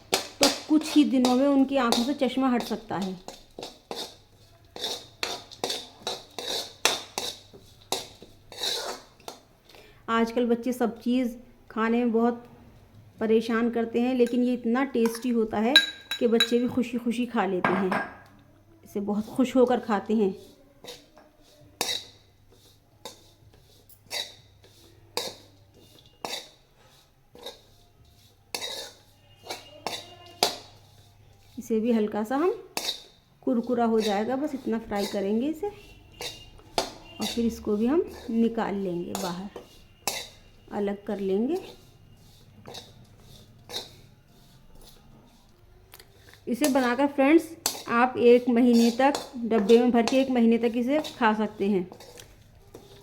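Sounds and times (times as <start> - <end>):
frying in oil: 0.0 - 9.5, 19.1 - 53.0
spatula scraping a pan: 0.0 - 9.5, 19.1 - 53.0.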